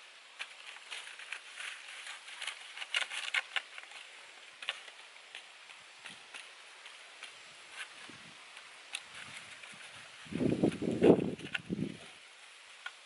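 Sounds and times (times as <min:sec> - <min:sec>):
dry leaf crackling: 0:00.0 - 0:13.0.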